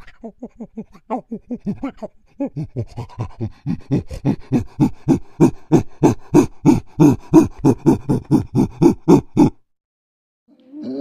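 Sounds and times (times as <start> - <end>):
monkey panting hoots: 0.0 - 9.6.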